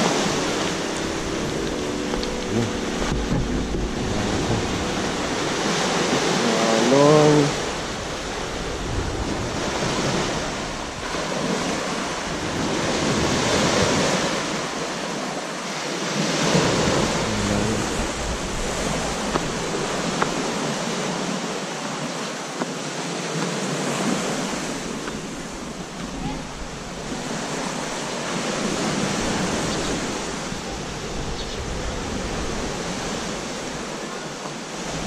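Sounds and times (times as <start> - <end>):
wind on microphone: 0.0 - 22.1, 23.3 - 35.0
small waves washing onto shore: 0.0 - 35.0.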